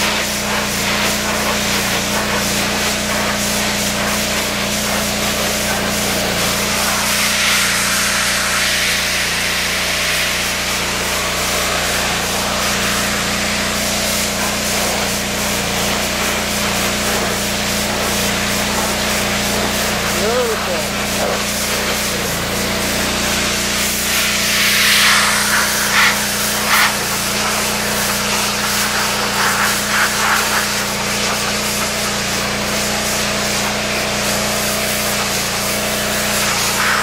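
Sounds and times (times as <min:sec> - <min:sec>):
high-pressure water jet spraying: 0:00.0 - 0:37.0
pressure washer engine humming: 0:00.0 - 0:37.0.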